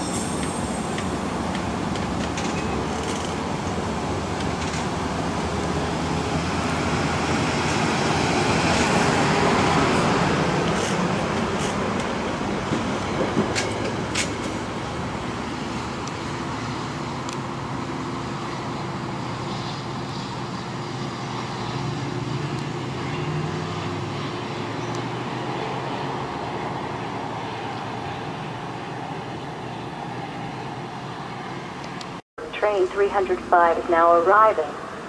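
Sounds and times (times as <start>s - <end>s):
train engine and wheels rumbling: 0.0s - 35.0s.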